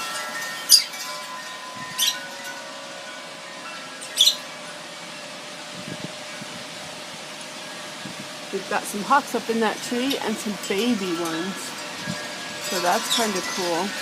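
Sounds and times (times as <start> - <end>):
wind chimes ringing: 0.0 - 14.0
gusty wind: 1.3 - 3.4, 4.8 - 14.0.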